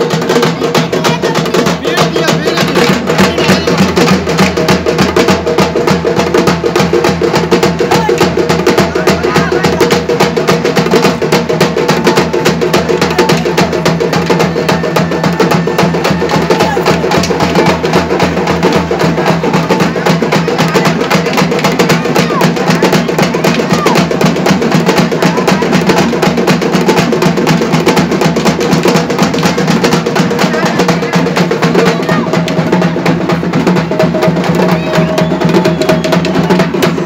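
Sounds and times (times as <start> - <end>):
fast clacking drumming: 0.0 - 37.0.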